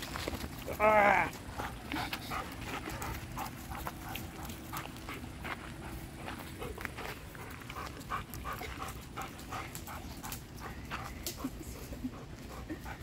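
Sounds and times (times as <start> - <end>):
dog panting: 1.4 - 13.0.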